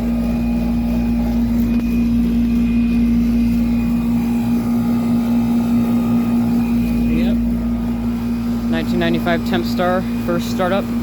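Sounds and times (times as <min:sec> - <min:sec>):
compressor hum: 0:00.0 - 0:11.0
condenser fan rushing: 0:00.0 - 0:11.0.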